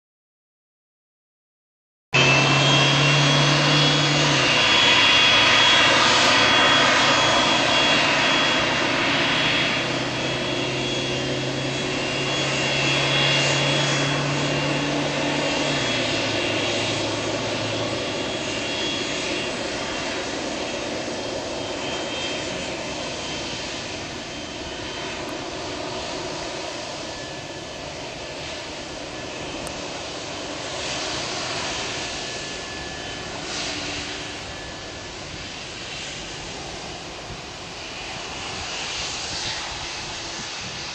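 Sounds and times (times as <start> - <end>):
jet engines whining at taxi power: 2.2 - 40.9.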